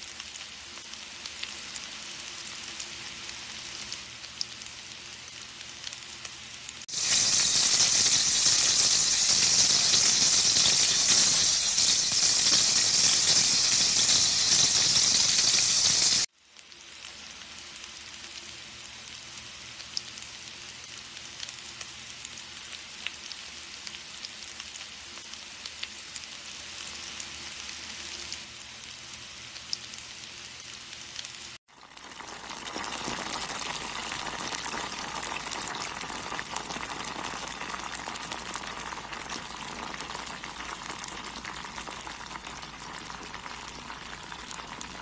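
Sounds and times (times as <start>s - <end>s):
fish pan-frying in oil: 0.0s - 45.0s
onion rings sizzling in oil: 0.0s - 45.0s.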